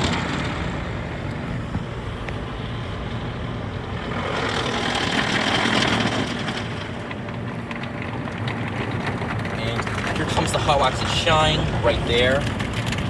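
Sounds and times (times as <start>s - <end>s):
car wash spraying and scrubbing: 1.4s - 13.0s.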